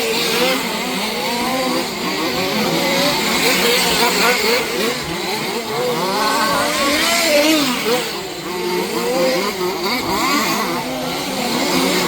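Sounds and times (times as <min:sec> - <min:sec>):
small two-stroke engines buzzing: 0:00.0 - 0:12.0.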